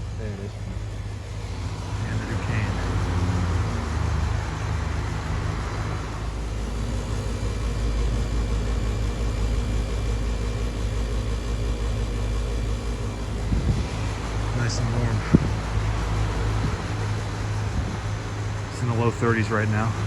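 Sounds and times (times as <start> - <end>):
fan and airflow noise: 0.0 - 20.0
heat pump compressor hum: 0.0 - 20.0.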